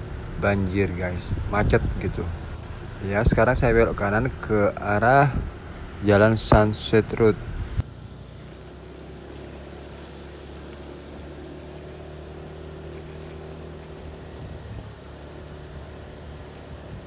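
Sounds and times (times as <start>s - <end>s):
motorcycle engine running: 0.0s - 17.0s
tyres hissing on wet road: 0.0s - 17.0s.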